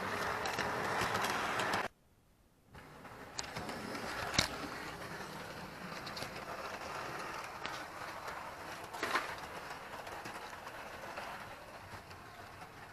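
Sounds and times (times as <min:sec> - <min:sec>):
model train motor whirring: 0:00.0 - 0:01.9, 0:02.9 - 0:12.9.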